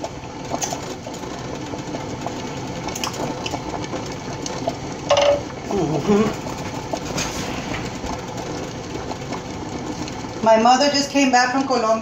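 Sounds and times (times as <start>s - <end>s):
pan simmering: 0.0s - 12.0s.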